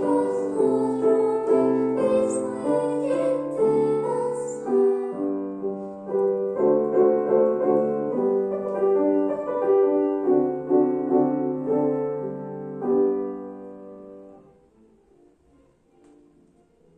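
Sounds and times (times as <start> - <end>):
piano playing: 0.0 - 16.9.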